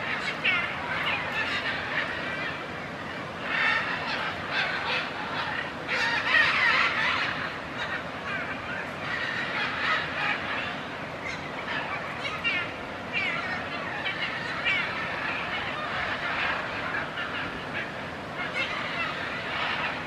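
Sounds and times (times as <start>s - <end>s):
macaws squawking: 3.4s - 20.0s.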